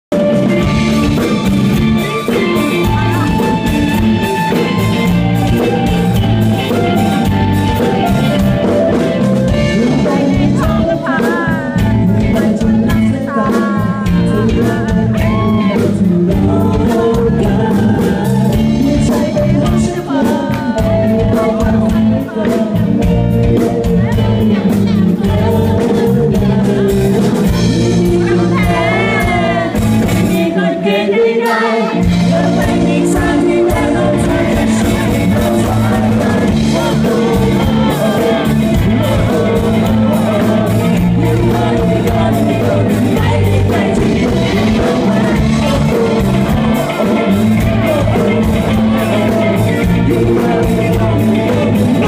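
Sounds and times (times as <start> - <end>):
live rock band playing: 0.1 - 52.0
man singing: 0.1 - 52.0.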